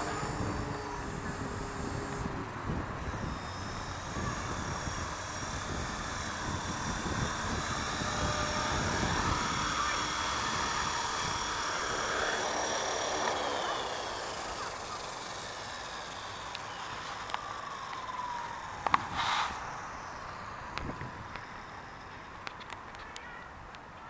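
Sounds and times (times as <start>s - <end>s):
rc helicopter rotor whirring: 0.0s - 24.0s.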